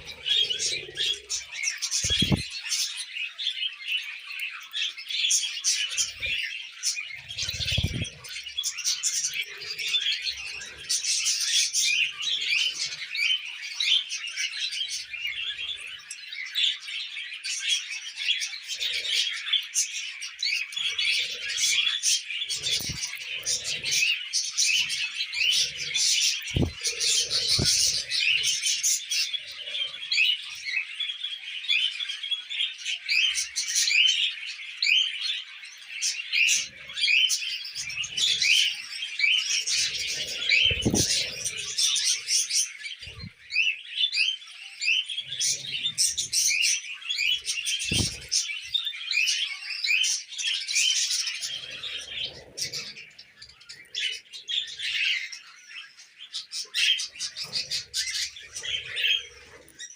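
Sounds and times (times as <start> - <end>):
budgerigars chattering: 0.0 - 3.4, 4.8 - 16.3, 18.2 - 31.2, 36.2 - 59.9.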